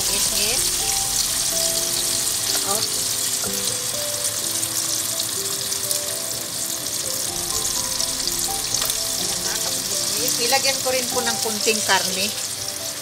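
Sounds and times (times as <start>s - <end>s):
background music with held notes: 0.0s - 13.0s
chicken sizzling in hot oil: 0.0s - 13.0s.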